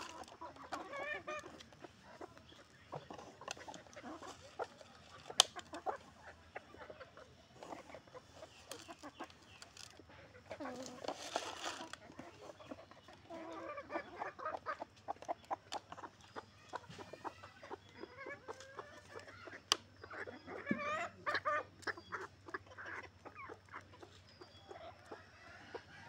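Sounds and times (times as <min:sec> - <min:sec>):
beaks pecking on concrete: 0:00.0 - 0:26.0
hens clucking: 0:00.0 - 0:26.0.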